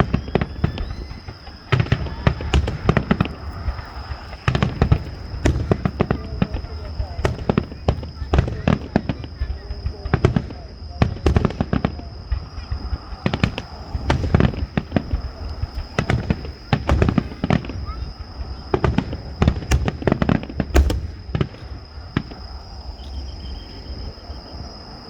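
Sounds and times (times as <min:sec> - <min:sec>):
fireworks booms and cracks: 0:00.0 - 0:23.5.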